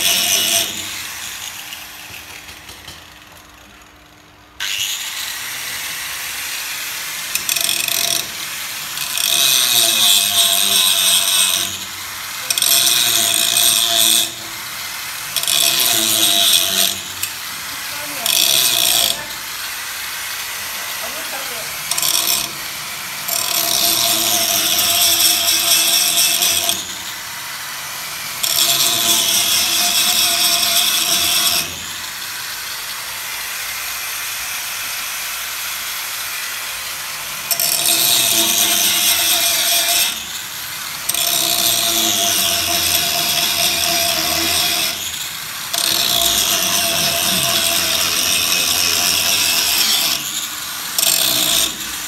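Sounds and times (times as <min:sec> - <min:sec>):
power tool cutting steel: 0:00.0 - 0:52.0.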